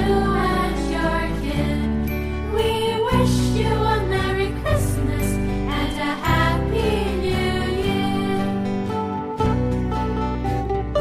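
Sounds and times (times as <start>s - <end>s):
christmas carol music: 0.0s - 11.0s.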